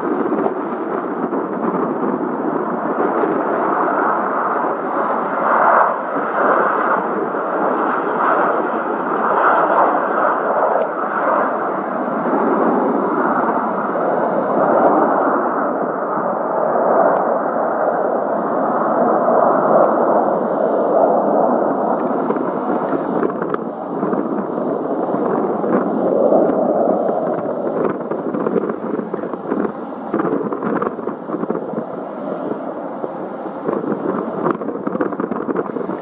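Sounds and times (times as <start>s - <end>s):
aircraft engine rumble with crackles: 0.0s - 36.0s.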